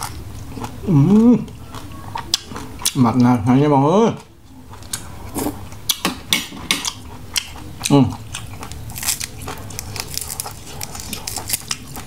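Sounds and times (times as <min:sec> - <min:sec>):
person chewing with crunchy bites: 0:00.0 - 0:03.4, 0:04.1 - 0:06.1, 0:06.7 - 0:12.0.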